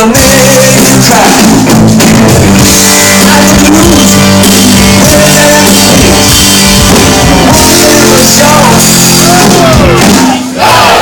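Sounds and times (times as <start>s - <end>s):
person singing: 0.0s - 1.7s, 2.6s - 10.6s
rock band playing: 0.0s - 11.0s.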